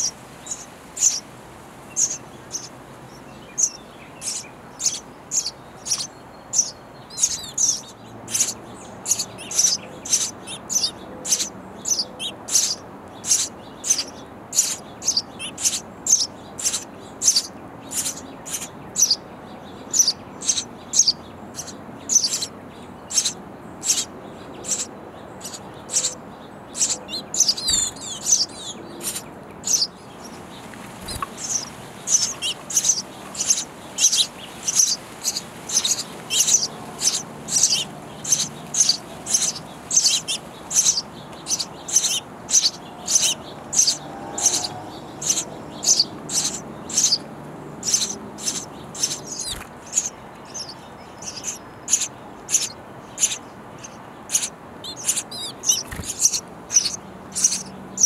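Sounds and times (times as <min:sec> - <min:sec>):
nestlings chirping: 0:00.0 - 0:58.0.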